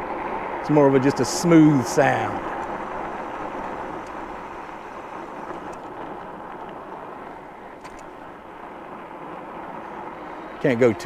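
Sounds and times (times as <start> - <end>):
tires rolling on road: 0.0 - 11.0.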